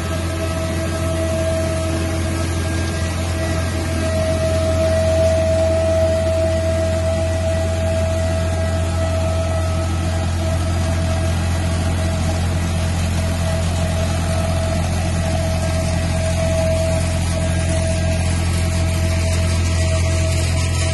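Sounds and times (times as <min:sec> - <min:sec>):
harvester machine whine: 0:00.0 - 0:20.9
tractor engine running: 0:00.0 - 0:20.9.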